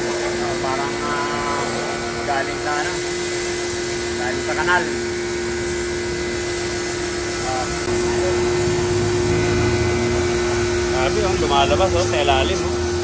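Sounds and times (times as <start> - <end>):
pressure washer motor humming: 0.0 - 13.0
pressure washer spray hissing: 0.0 - 13.0.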